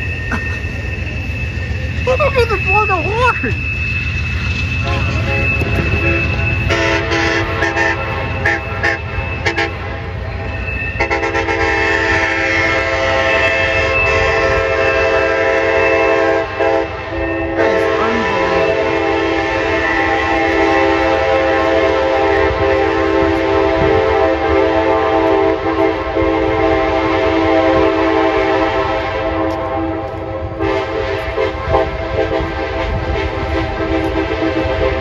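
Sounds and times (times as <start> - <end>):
train low rumble: 0.0 - 35.0
locomotive air horn blasts: 4.7 - 10.2, 10.9 - 35.0.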